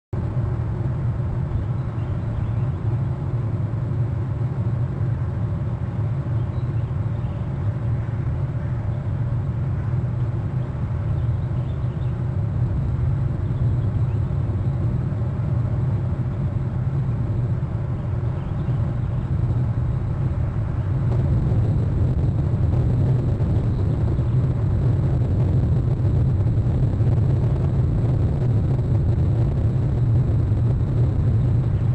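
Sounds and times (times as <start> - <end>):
low rumble: 0.2 - 31.9.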